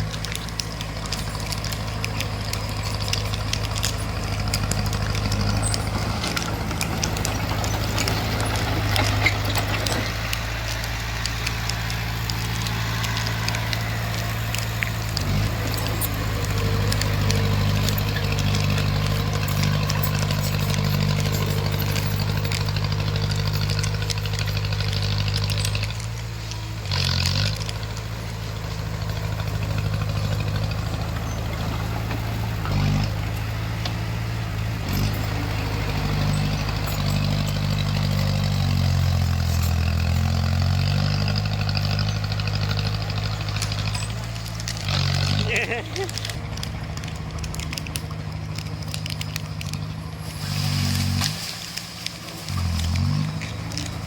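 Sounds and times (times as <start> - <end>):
bulldozer diesel engine running: 0.0 - 54.0
clicks and clanks: 0.0 - 54.0.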